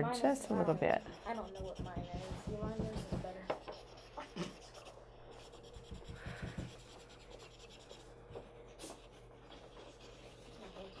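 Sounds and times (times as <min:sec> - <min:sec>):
drawing tool scratching paper: 0:00.0 - 0:11.0
steady low hum: 0:00.0 - 0:11.0.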